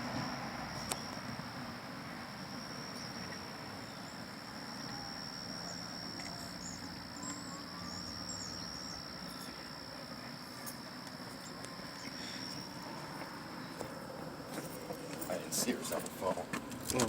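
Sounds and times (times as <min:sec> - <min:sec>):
high-pitched insect trill: 0:00.0 - 0:16.5.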